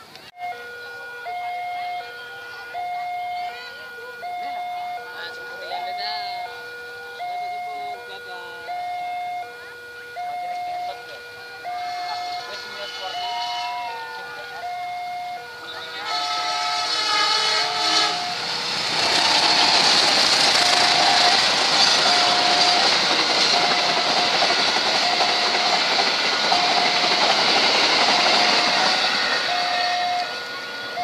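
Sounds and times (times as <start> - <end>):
level crossing warning beeps: 0.3 - 31.0
train passing at speed: 1.1 - 31.0.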